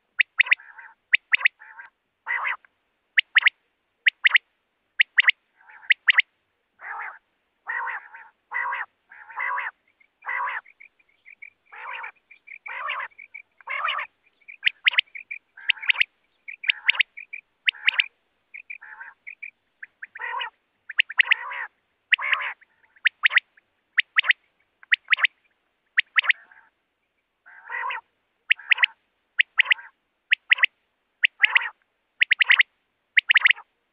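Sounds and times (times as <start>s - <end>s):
quail calling: 0.0s - 4.4s, 5.0s - 26.8s, 27.4s - 33.7s.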